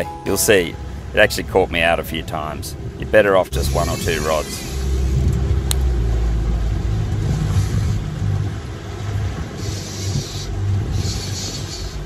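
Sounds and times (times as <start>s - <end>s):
boat engine rumbling: 0.0s - 12.0s
water rushing: 0.0s - 12.0s.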